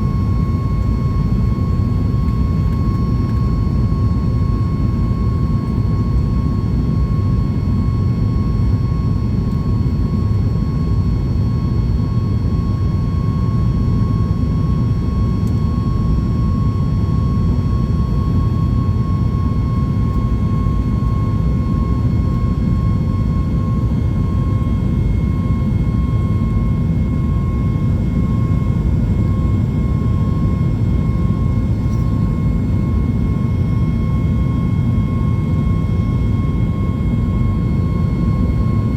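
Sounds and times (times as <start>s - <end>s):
jet engine roar with whine: 0.0s - 38.9s.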